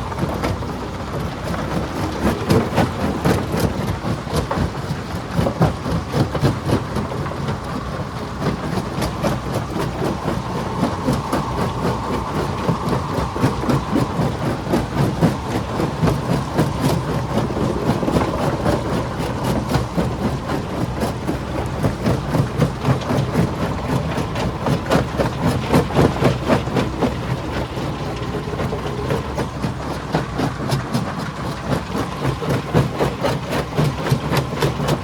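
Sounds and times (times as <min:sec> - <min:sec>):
heavy machine hum: 0:00.0 - 0:35.0.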